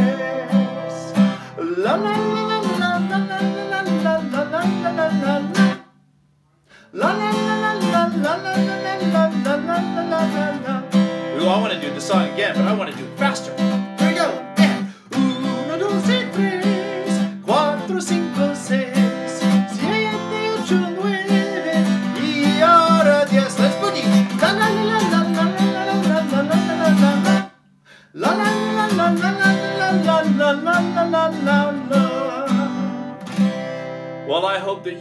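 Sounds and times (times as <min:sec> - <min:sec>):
man singing: 0:00.0 - 0:05.8, 0:06.8 - 0:33.1
acoustic guitar strumming: 0:00.0 - 0:06.0, 0:06.9 - 0:27.6, 0:28.2 - 0:35.0.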